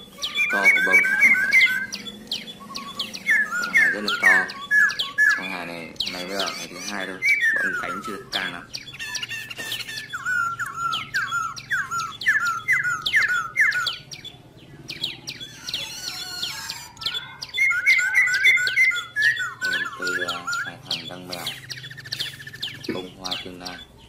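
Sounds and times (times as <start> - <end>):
faint high bird chirps: 0.0 - 24.0
songbird whistling: 0.0 - 24.0.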